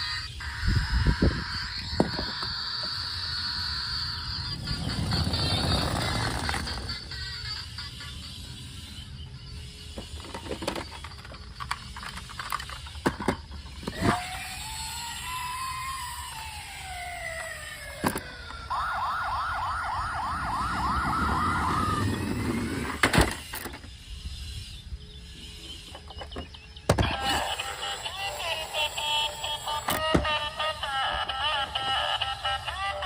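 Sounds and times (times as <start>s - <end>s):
toy electronic siren: 0.0s - 33.0s.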